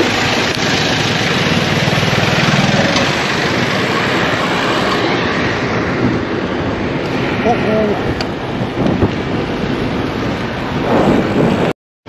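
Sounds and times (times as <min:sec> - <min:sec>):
road noise: 0:00.0 - 0:11.7
wind rushing over microphone: 0:00.0 - 0:11.7.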